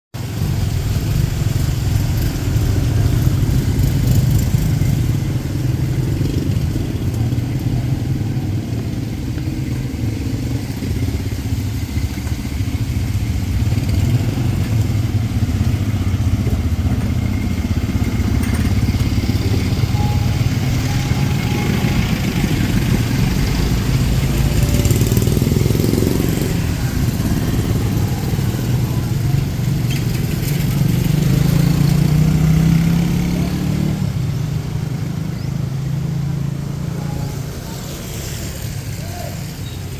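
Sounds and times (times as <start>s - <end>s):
street traffic: 0.1s - 39.9s
motorcycle engines running: 0.2s - 39.9s
engine revving: 0.3s - 36.9s.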